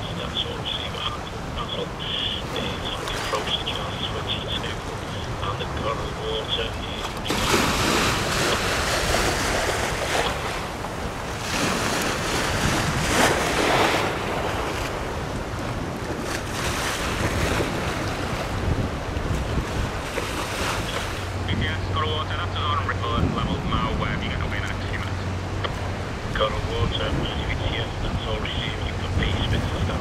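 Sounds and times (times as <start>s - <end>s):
choppy river water: 0.0s - 30.0s
wind buffeting the microphone: 0.0s - 30.0s.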